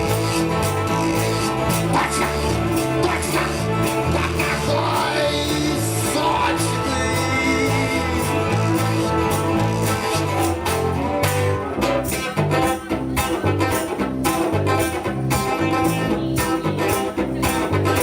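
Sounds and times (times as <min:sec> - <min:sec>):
guitar: 0:00.0 - 0:18.0
live rock band playing: 0:00.0 - 0:18.0.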